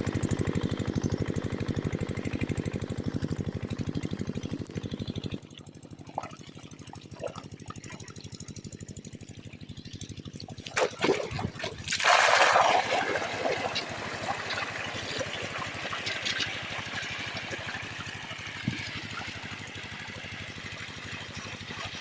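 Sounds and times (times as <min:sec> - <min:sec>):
diesel engine running: 0:00.0 - 0:22.0
water gushing from pump outlet: 0:00.0 - 0:22.0.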